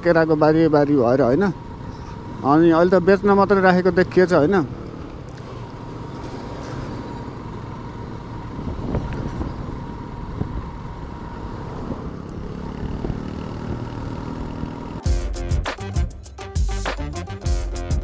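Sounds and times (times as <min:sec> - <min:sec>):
motorcycle engine: 0:00.0 - 0:16.4
road noise: 0:00.0 - 0:17.5.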